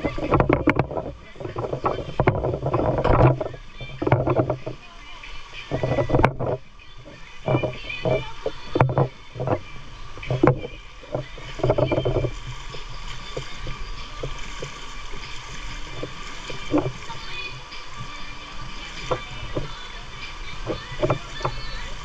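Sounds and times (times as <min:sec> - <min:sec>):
steady background noise: 0:00.0 - 0:22.0
water splashing from swimmers: 0:00.0 - 0:22.0.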